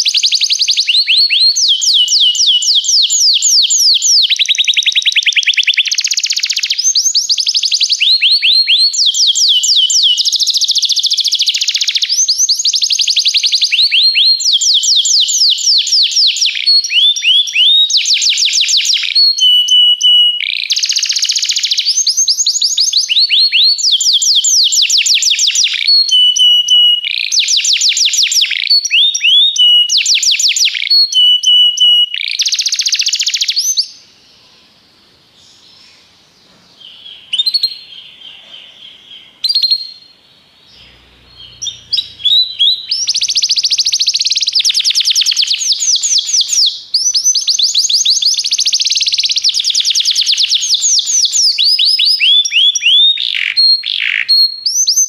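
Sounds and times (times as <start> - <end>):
canary singing trills: 0.0 - 34.8, 35.4 - 55.0.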